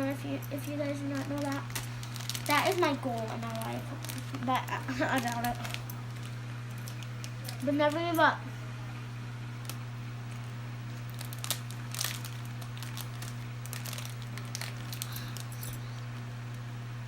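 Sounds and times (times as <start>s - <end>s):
steady low hum: 0.0s - 17.0s
plastic bag crinkling: 0.6s - 8.4s, 9.6s - 16.2s.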